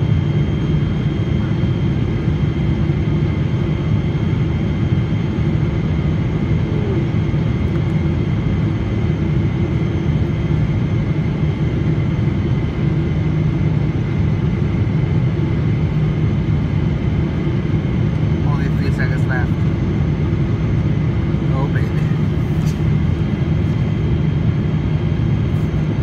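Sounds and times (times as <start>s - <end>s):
airliner cabin engine noise: 0.0s - 26.0s.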